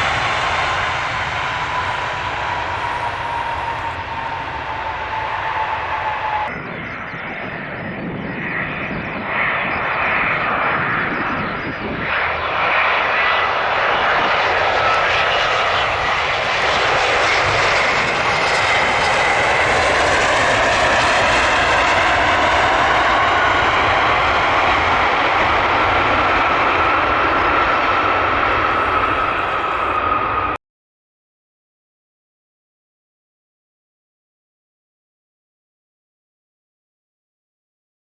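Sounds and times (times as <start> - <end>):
jet engines roaring: 0.0 - 30.6.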